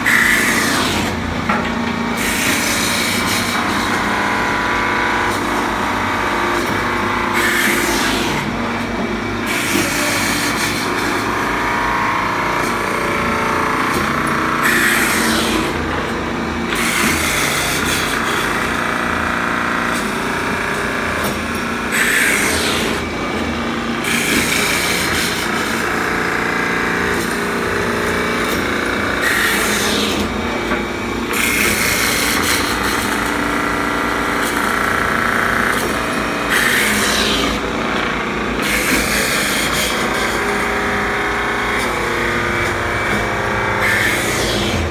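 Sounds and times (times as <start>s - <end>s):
woodworking machine cutting wood: 0.0s - 44.9s.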